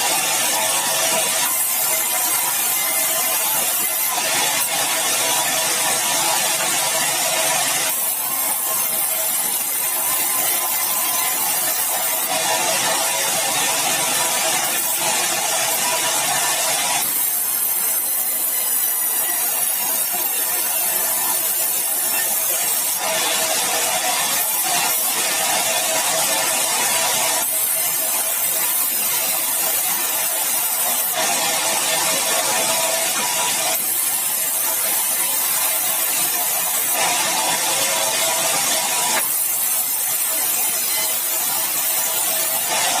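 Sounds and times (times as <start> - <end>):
sawmill saw cutting timber: 0.0 - 43.0.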